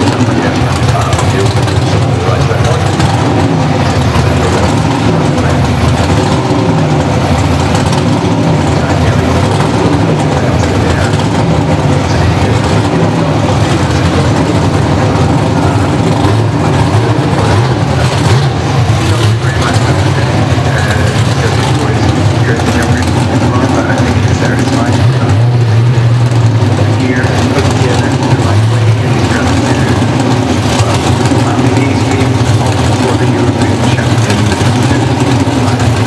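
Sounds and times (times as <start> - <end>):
drag car engines running loud: 0.0 - 36.0.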